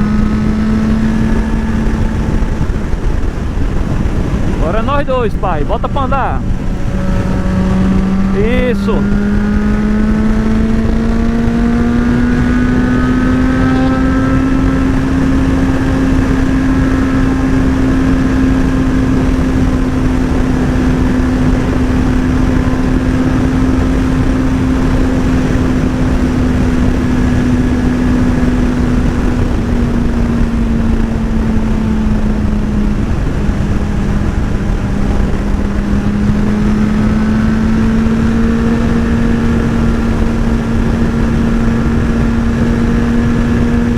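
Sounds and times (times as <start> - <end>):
motorcycle engine cruising: 0.0 - 43.9
wind noise: 0.0 - 43.9.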